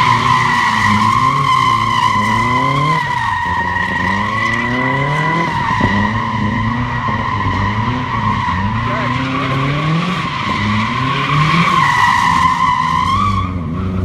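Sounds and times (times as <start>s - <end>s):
car engine revving: 0.0s - 14.0s
tyres squealing: 0.0s - 14.0s.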